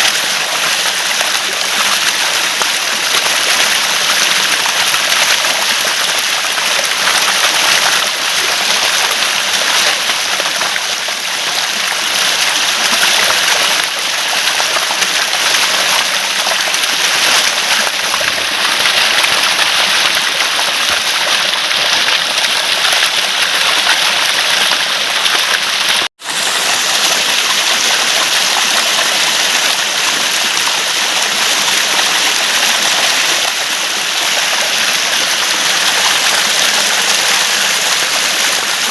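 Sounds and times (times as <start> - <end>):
water gurgling and rushing: 0.0 - 38.9.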